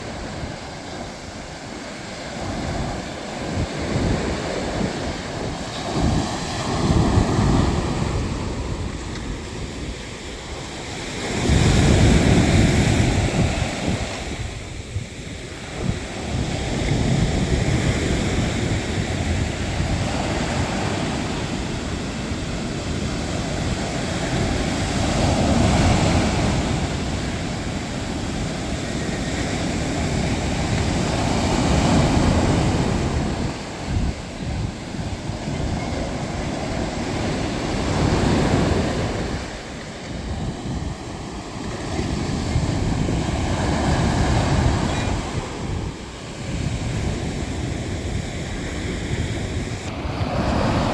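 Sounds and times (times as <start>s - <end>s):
sea waves breaking on shore: 0.0s - 50.9s
wind buffeting microphone: 0.0s - 50.9s.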